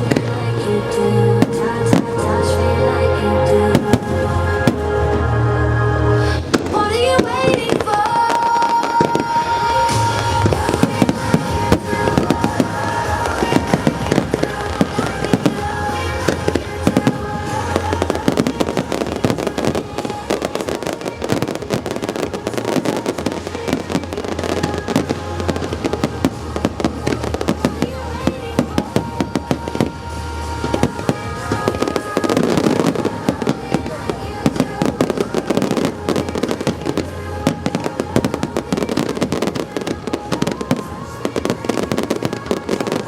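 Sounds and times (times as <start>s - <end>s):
fireworks bursting and crackling: 0.0s - 43.0s
music: 0.0s - 43.0s.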